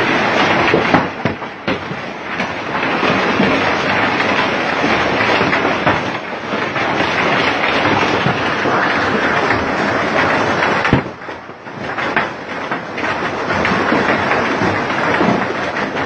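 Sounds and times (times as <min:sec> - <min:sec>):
heavy rain and hail pelting: 0:00.0 - 0:16.0.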